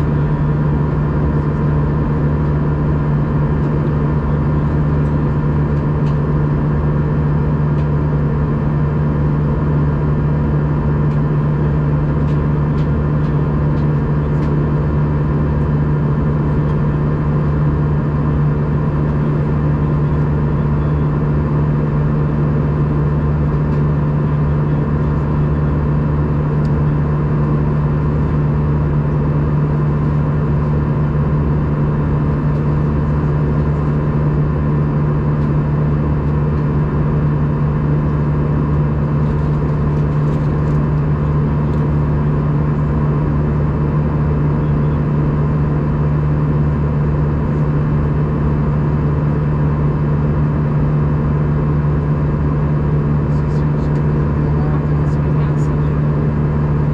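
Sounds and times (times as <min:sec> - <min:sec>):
airliner cabin engine drone: 0:00.0 - 0:56.9.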